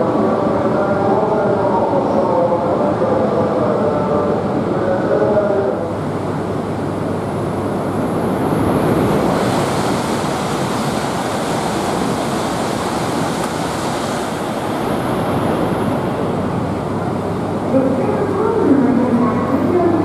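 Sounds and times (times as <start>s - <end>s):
high-speed train whooshing: 0.0s - 20.0s
trains humming at platforms: 0.0s - 20.0s.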